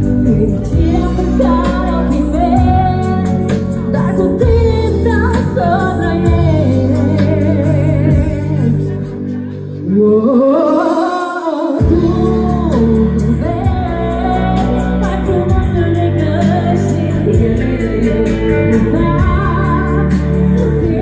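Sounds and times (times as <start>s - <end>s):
backing music with bass and beat: 0.0s - 21.0s
woman singing: 0.0s - 21.0s.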